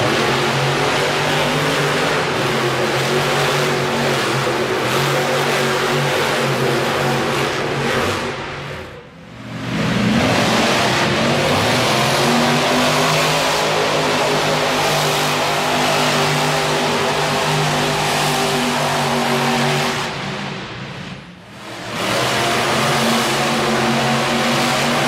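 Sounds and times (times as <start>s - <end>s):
monster truck engine at high revs: 0.0s - 25.0s.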